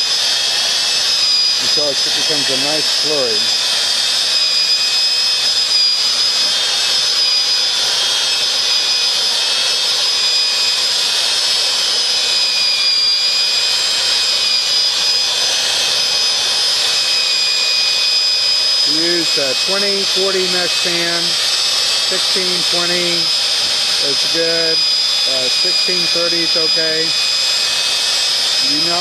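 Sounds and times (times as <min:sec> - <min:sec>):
drill mixer whining: 0:00.0 - 0:29.0.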